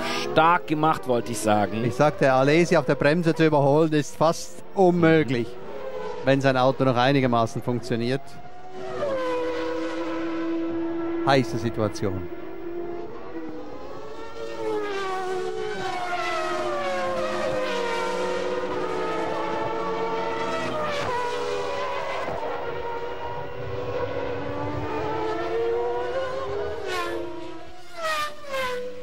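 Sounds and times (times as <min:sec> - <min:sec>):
race car engines whining: 0:00.0 - 0:29.0.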